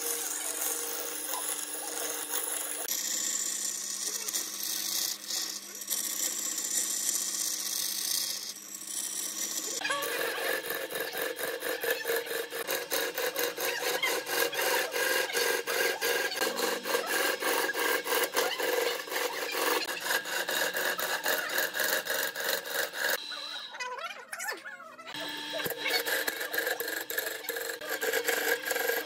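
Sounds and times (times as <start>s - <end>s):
turning tool scraping wood: 0.0s - 23.3s, 25.1s - 29.0s
lathe hum: 0.0s - 23.4s, 25.1s - 29.0s.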